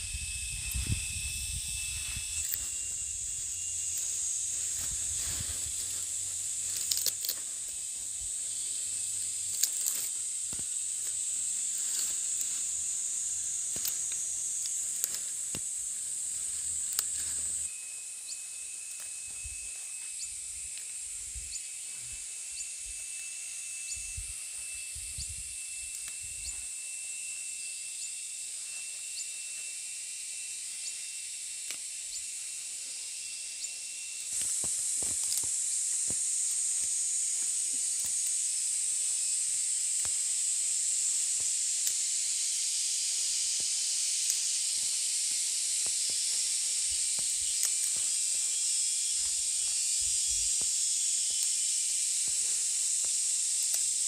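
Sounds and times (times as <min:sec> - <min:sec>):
high-pitched hiss: 0:00.0 - 0:54.0
thin steady high tone: 0:00.0 - 0:54.0.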